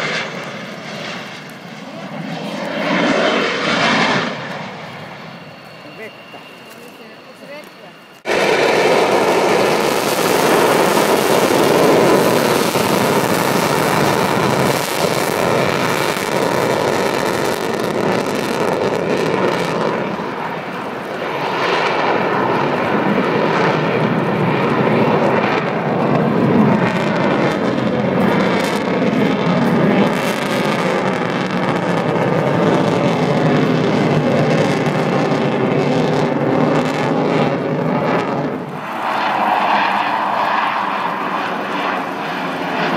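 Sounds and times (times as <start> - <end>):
jet engine roar: 0.0 - 42.9.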